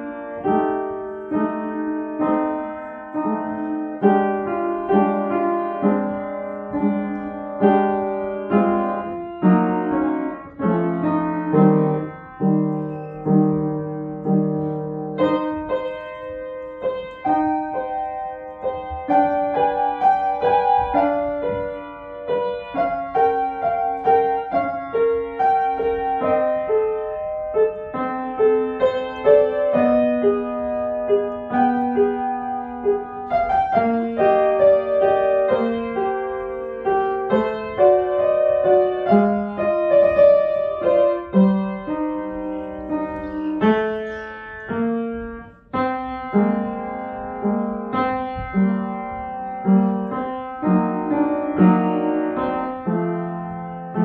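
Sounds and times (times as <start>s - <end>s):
classical piano piece: 0.0s - 54.0s.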